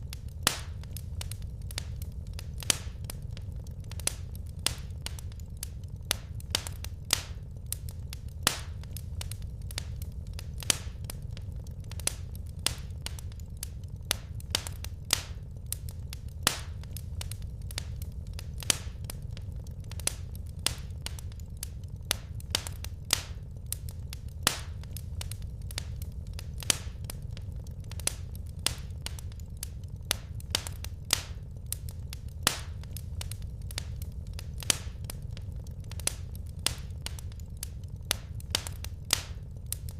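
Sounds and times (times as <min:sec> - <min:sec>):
steady low rumble: 0:00.0 - 0:39.9
wood fire crackling: 0:00.0 - 0:39.9.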